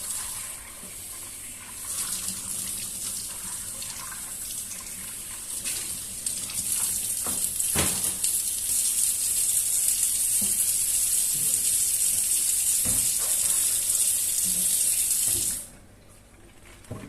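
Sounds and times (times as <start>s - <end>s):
tap water running into sink: 0.0s - 15.7s.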